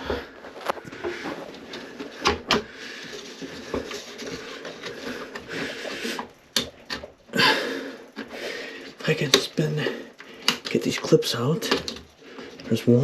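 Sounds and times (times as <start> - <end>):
hands handling plastic fan cover: 0.0 - 7.2, 8.1 - 12.8.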